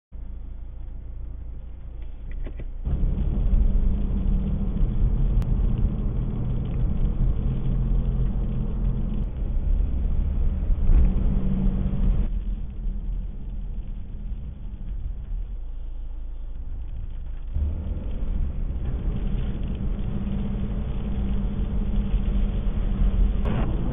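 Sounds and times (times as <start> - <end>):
car engine and road noise: 0.2 - 23.9.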